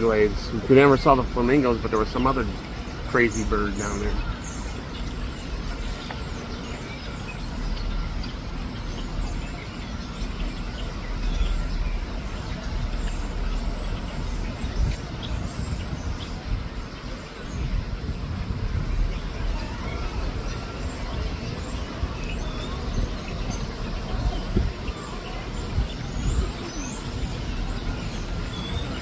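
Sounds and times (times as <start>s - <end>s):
low uneven rumble: 0.0s - 29.0s.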